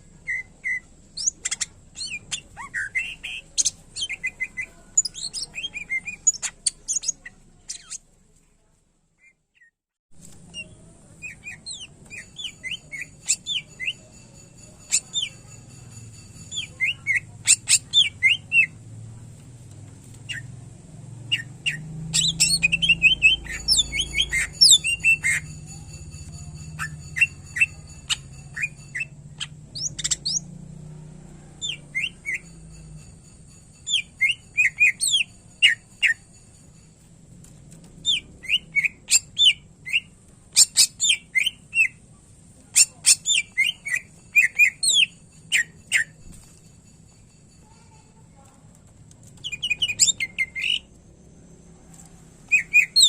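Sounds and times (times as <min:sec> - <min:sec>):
songbird chirping and whistling: 0:00.0 - 0:08.0, 0:10.3 - 0:18.8, 0:20.0 - 0:30.6, 0:31.6 - 0:36.8, 0:37.8 - 0:46.6, 0:49.3 - 0:53.0.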